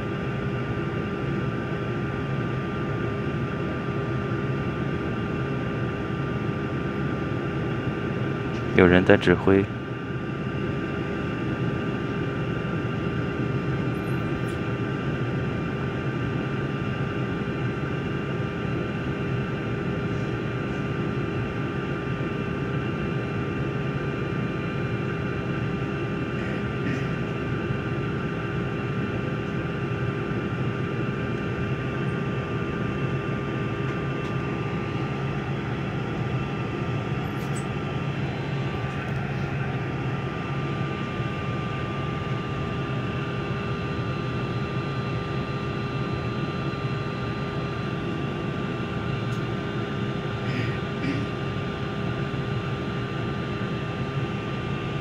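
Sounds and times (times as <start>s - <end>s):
airliner engines droning: 0.0s - 55.0s.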